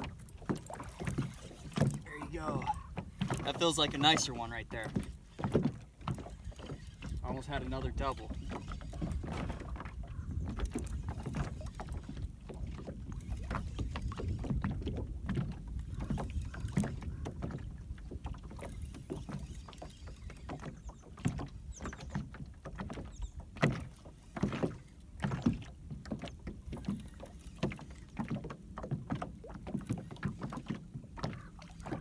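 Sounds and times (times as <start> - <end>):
waves lapping against boat hull: 0.0 - 32.0.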